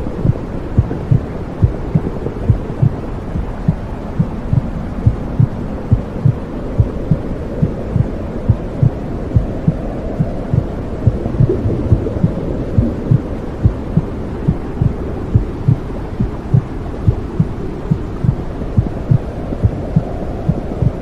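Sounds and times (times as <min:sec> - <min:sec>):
muffled rushing hum: 0:00.0 - 0:21.0
heartbeat thumping: 0:00.2 - 0:21.0.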